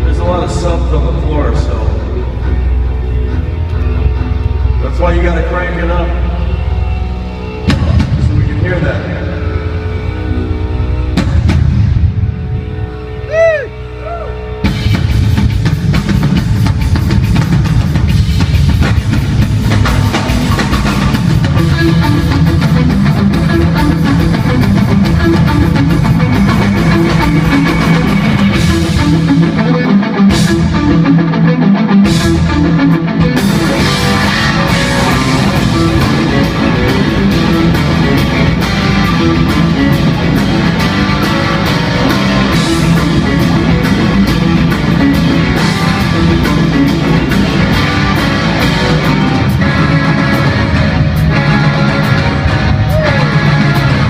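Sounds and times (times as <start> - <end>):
electric guitar: 0.0 - 54.0
rock band playing live: 0.0 - 54.0
drum kit: 7.6 - 9.6, 11.1 - 54.0.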